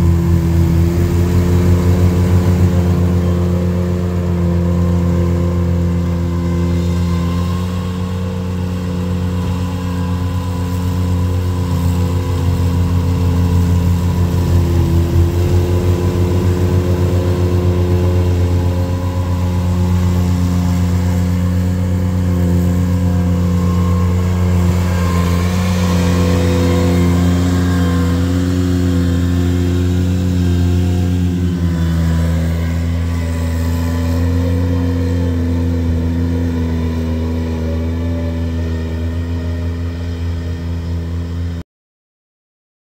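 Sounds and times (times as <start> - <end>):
tractor engine running: 0.0 - 41.6.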